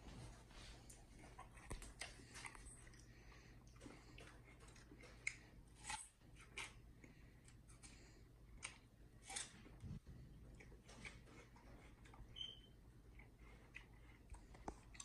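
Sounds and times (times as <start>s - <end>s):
chimpanzee chewing watermelon: 0.0s - 15.0s.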